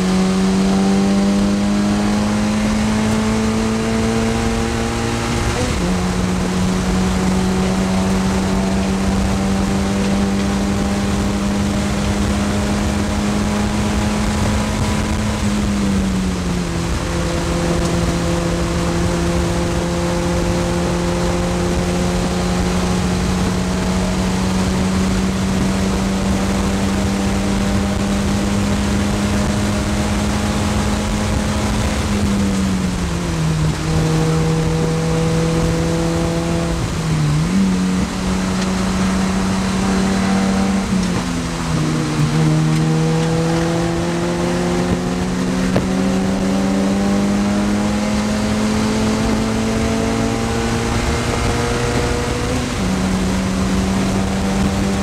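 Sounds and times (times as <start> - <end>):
car engine at high revs: 0.0 - 55.0
road and wind noise: 0.0 - 55.0.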